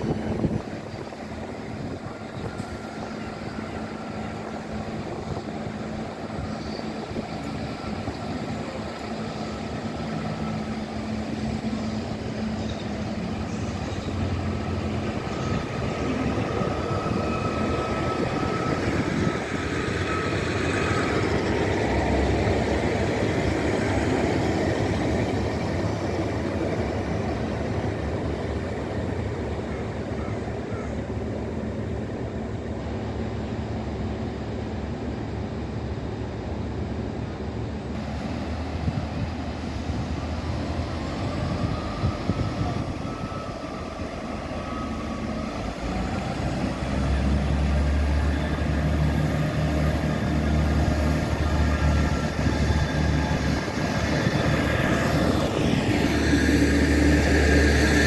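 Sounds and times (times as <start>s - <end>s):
diesel engines whining: 0.0s - 58.0s
wheels rumbling on rails: 0.0s - 58.0s.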